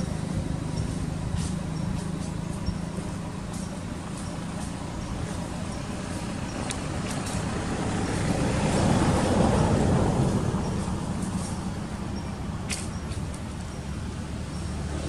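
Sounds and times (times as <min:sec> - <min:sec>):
engine hum and rumble: 0:00.0 - 0:15.0.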